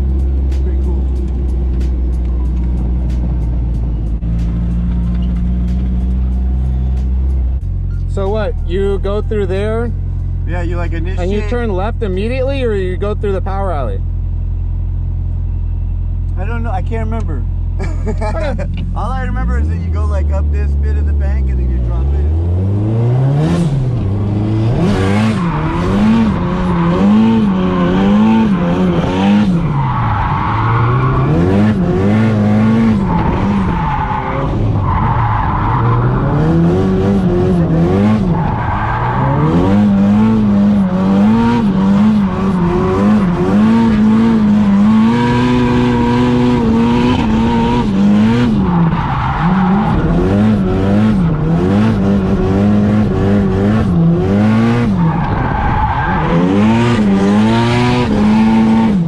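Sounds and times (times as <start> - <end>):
car engine revving: 0.0 - 15.6, 16.2 - 59.0.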